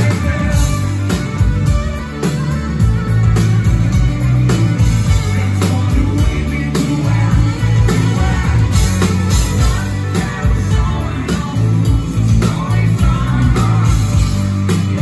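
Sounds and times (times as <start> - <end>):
bass: 0.0 - 15.0
drum kit beat: 0.0 - 15.0
electric guitars: 0.0 - 15.0
keyboard: 0.0 - 15.0.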